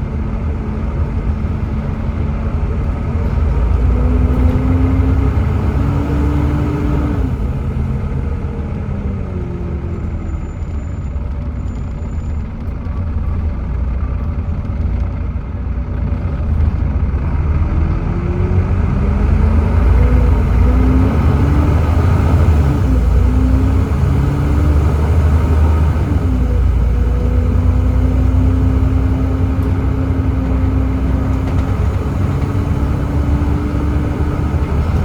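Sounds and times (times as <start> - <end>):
bus diesel engine: 0.0 - 35.0.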